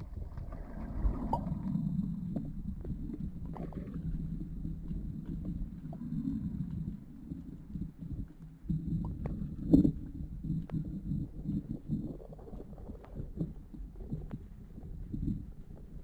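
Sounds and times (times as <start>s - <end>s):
faint clicks and knocks: 0.0s - 16.0s
underwater rumbling water: 0.0s - 16.0s.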